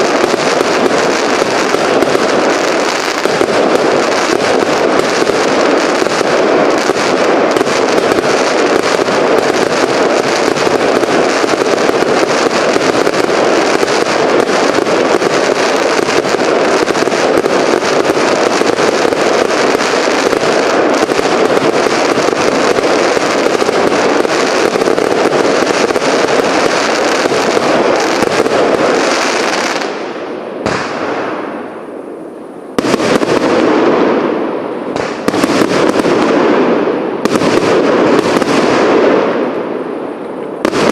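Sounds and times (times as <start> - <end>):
fireworks firing with crackle: 0.0 - 40.9.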